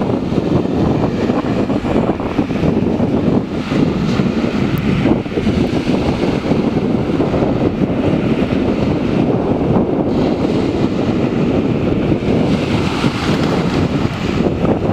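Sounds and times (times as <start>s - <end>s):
sea water washing: 0.0s - 14.9s
wind buffeting microphone: 0.0s - 14.9s.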